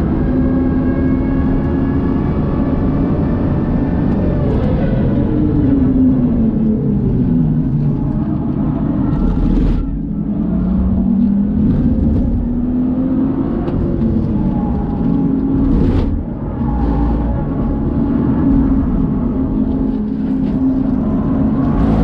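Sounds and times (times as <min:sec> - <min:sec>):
car engine at full throttle: 0:00.0 - 0:22.0
tyre and road noise: 0:00.0 - 0:22.0.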